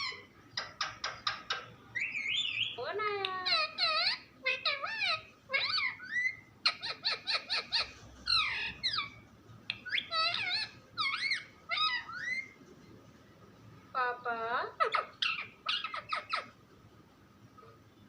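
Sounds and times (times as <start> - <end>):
parrot squawking and chattering: 0.0 - 12.6, 14.6 - 16.6.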